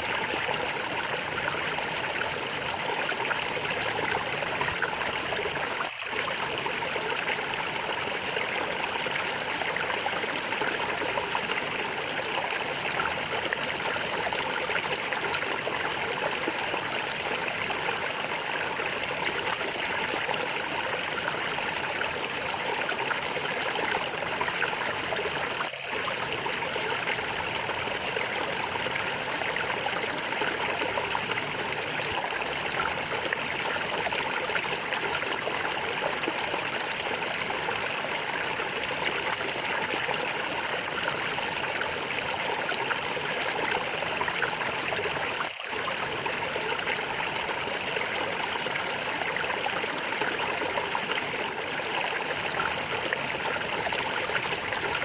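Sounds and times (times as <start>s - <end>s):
stream gurgling over stones: 0.0s - 55.0s.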